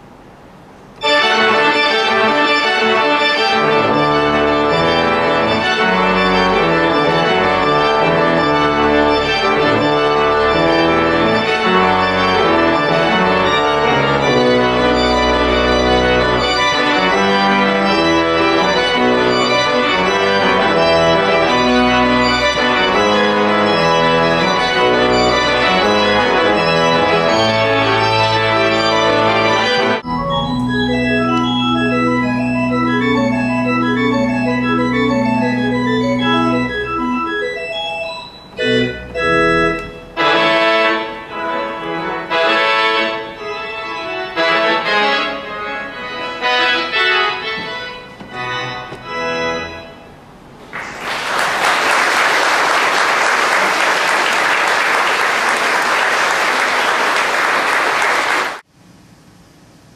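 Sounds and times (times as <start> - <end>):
organ chords: 0.0 - 58.7
organ bass line: 1.0 - 50.2.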